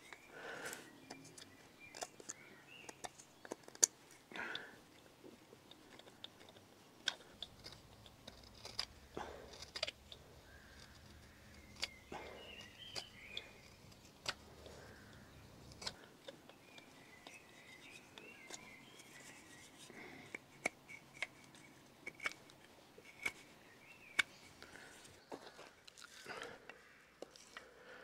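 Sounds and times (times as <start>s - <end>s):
knife carving wood: 0.0s - 26.6s, 27.2s - 27.7s.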